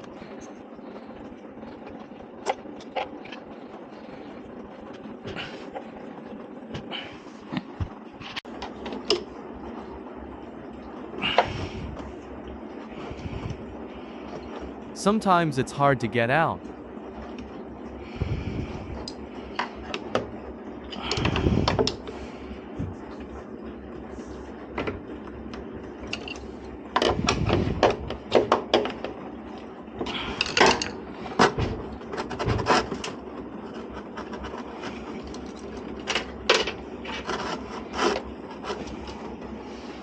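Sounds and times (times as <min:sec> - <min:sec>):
heater element scraping: 0:00.0 - 0:40.0.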